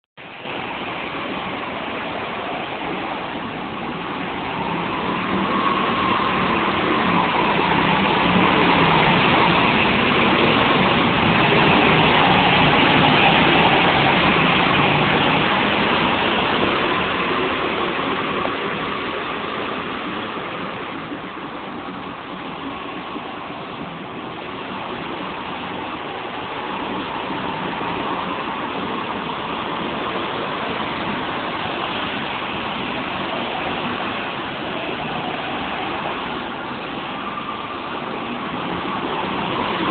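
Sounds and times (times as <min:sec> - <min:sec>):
go-kart engines passing: 0:00.6 - 0:39.9.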